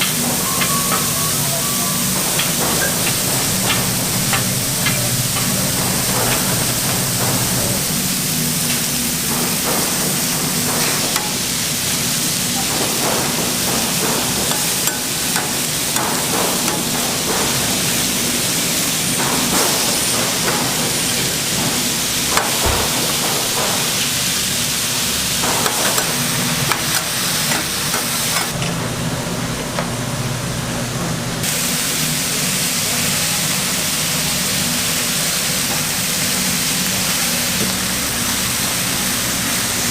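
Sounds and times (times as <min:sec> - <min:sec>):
food sizzling: 0:00.0 - 0:28.6, 0:31.4 - 0:39.9.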